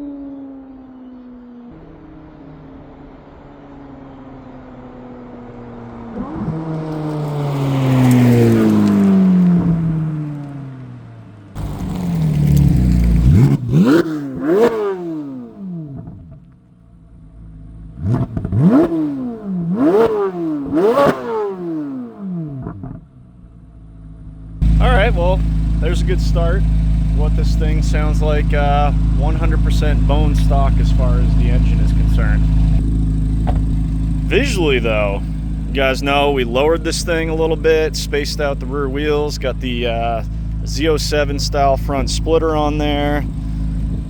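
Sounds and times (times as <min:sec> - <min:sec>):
sports car passing by: 0:00.0 - 0:16.5, 0:17.2 - 0:44.0
car engine revving in blips: 0:00.0 - 0:44.0.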